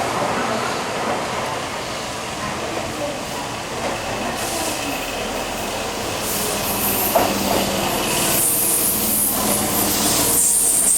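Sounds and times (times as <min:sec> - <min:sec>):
electric train rumble and hiss: 0:00.0 - 0:10.9.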